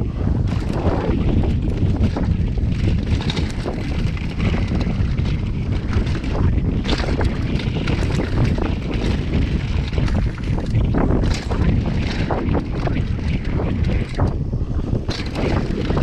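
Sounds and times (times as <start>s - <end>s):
bike clicks and rattles: 0.0s - 16.0s
tyres rumbling on dirt: 0.0s - 16.0s
wind buffeting microphone: 0.0s - 16.0s.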